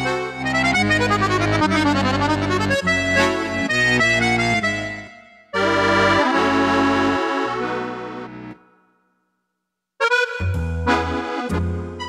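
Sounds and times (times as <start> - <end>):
accordion melody over bass chords: 0.0 - 9.0, 10.0 - 12.0.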